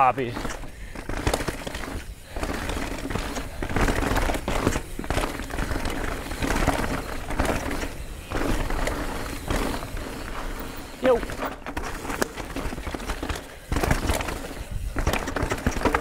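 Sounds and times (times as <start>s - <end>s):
bike clattering and rattling: 0.0s - 16.0s
bike tyres rolling over dirt: 0.0s - 16.0s.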